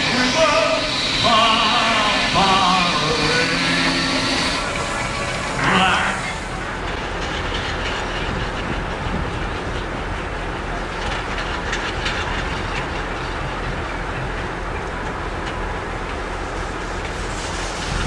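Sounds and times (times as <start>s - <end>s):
steam traction engine rumbling: 0.0s - 18.0s.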